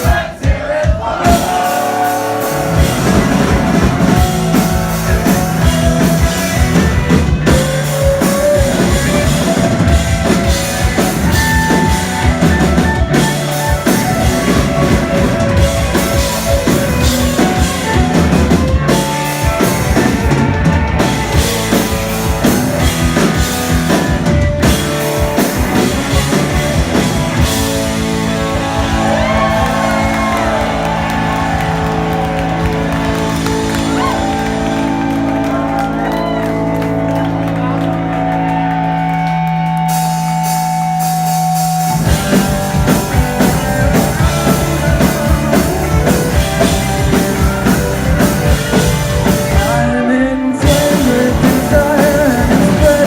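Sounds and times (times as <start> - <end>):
drum kit beating: 0.0 - 53.0
electric guitars and bass: 1.2 - 53.0.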